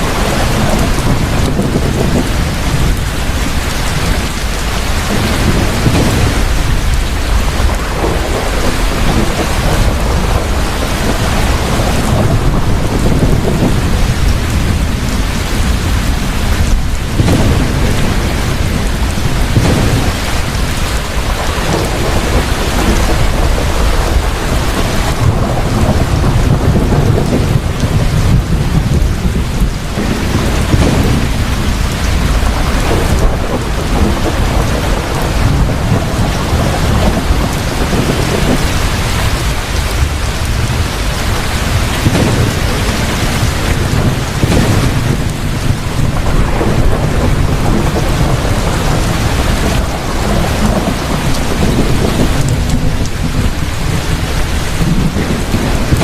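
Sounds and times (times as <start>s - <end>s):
deep rolling thunder: 0.0s - 56.0s
heavy rain: 0.0s - 56.0s.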